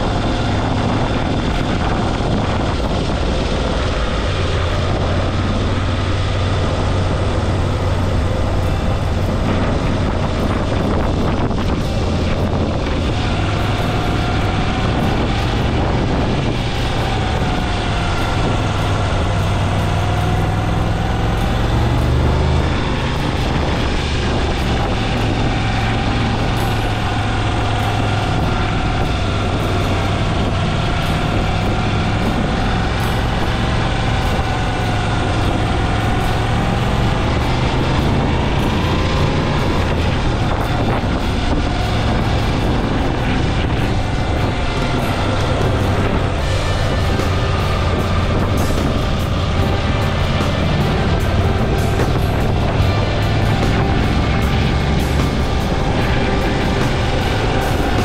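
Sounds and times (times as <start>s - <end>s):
motorcycle engine cruising: 0.0s - 58.0s
road noise: 0.0s - 58.0s
wind noise: 0.0s - 58.0s.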